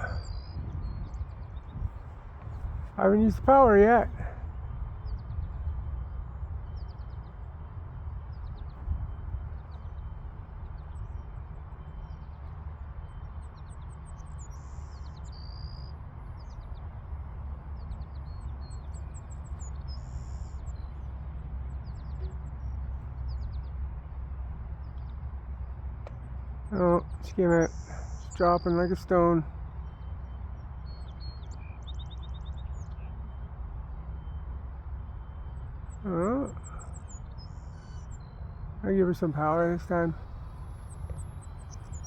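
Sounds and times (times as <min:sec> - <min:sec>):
small birds chirping: 0:00.0 - 0:42.0
wind rumble on microphone: 0:00.0 - 0:42.0.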